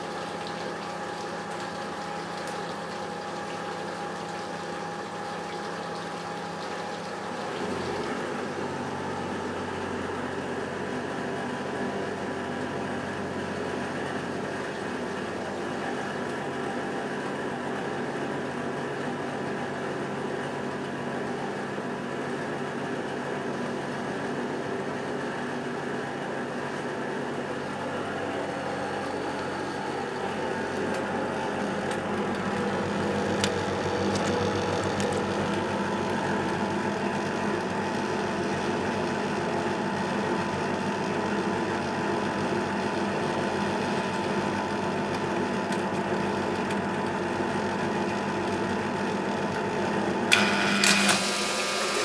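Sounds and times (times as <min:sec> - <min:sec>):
washing machine humming: 0:00.0 - 0:52.0.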